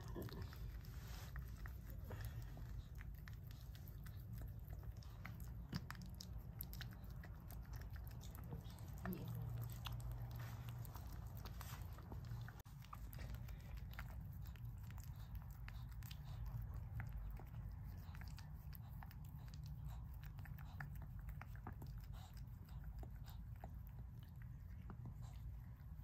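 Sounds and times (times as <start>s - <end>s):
dog licking and chewing: 0.0s - 26.0s
low steady hum: 0.0s - 26.0s.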